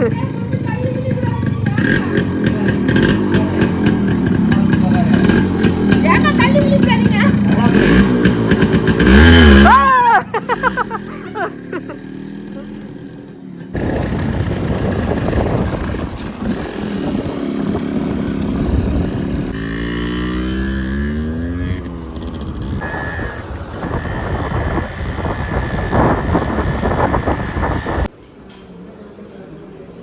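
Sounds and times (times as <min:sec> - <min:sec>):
motorbike engine accelerating: 0:00.0 - 0:28.1.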